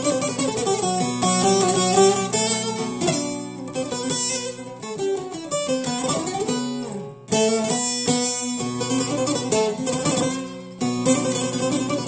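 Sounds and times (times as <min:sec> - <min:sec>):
long-necked lute plucked melody: 0:00.0 - 0:12.0.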